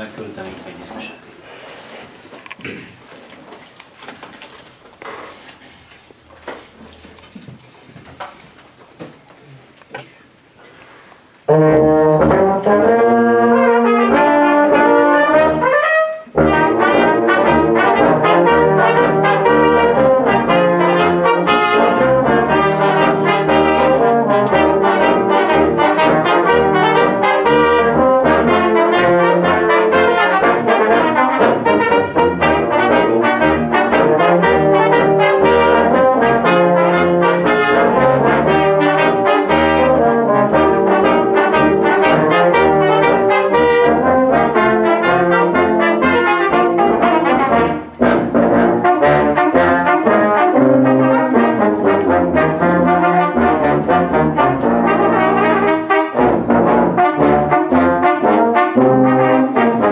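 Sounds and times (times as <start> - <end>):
brass band playing: 11.4 - 59.9.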